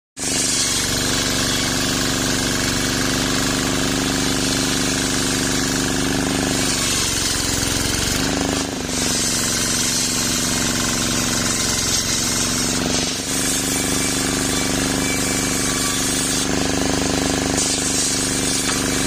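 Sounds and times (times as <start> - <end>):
circular saw blade ripping wood: 0.2 - 19.0.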